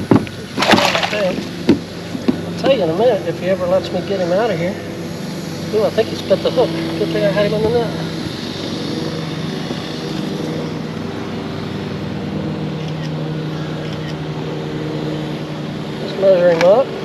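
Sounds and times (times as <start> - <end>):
engine droning hum: 0.0 - 17.0.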